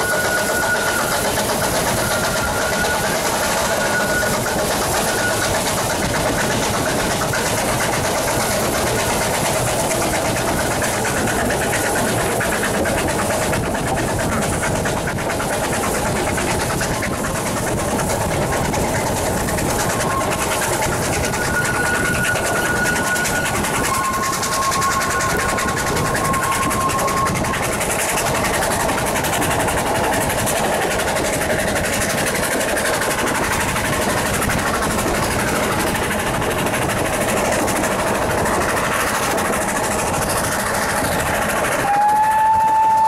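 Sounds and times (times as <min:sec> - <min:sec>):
steam train on rails: 0:00.0 - 0:43.0.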